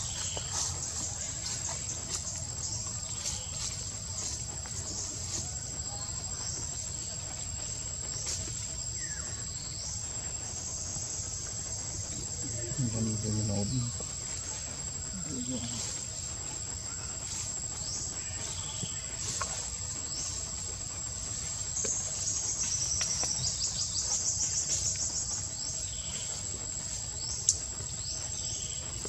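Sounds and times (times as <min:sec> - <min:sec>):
insects buzzing: 0:00.0 - 0:29.0.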